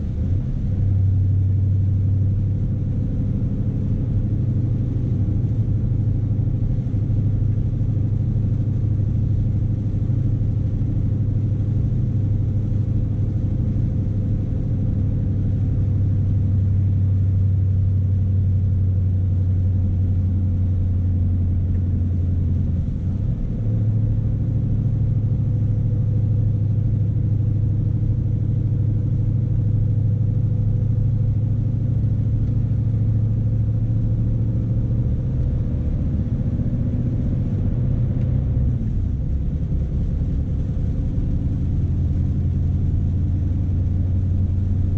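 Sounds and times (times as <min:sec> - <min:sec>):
diesel truck engine droning: 0:00.0 - 0:44.9.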